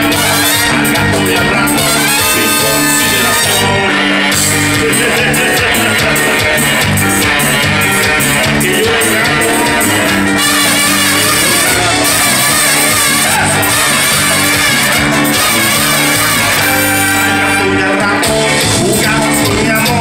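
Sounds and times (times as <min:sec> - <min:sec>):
loud brass band music: 0:00.0 - 0:20.0.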